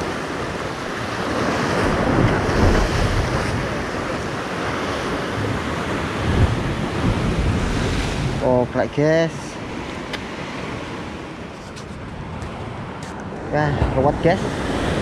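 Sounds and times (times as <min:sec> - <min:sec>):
wind buffeting microphone: 0:00.0 - 0:08.7, 0:09.6 - 0:15.0
waves breaking on rocks: 0:00.0 - 0:15.0.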